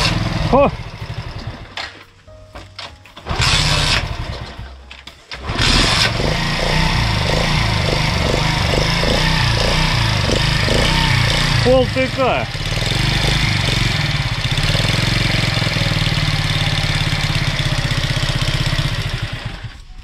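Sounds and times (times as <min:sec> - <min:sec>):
scooter engine starting and running: 0:00.0 - 0:02.0, 0:02.7 - 0:20.0.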